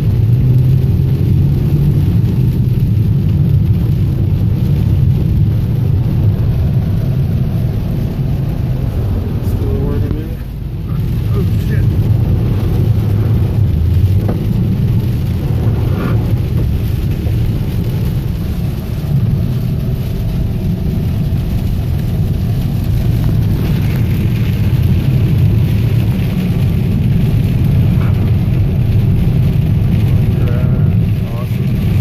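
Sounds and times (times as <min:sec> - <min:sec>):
rain on a car: 0:00.0 - 0:32.0
road and engine rumble: 0:00.0 - 0:32.0.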